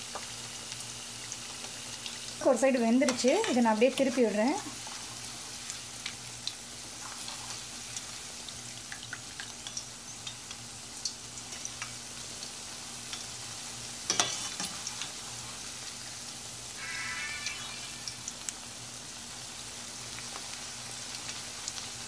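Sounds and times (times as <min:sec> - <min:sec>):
fritters deep-frying with crackles: 0:00.0 - 0:22.0.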